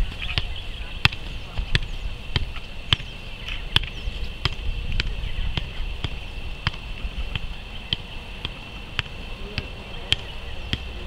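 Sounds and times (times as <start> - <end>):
boot tapping soccer ball: 0.0 - 3.1, 3.7 - 11.0.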